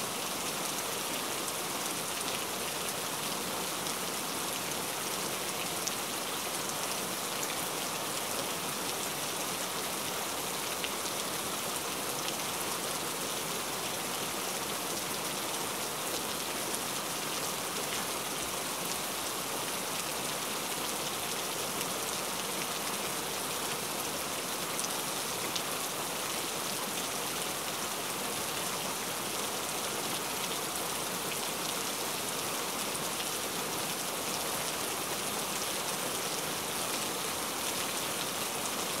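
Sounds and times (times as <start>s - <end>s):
rain-like hiss: 0.0s - 39.0s.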